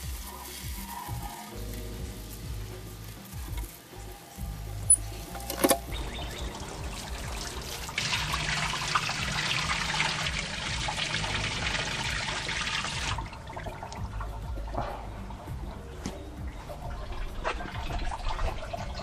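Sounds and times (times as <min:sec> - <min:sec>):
hose spraying water on metal: 0:00.0 - 0:15.7.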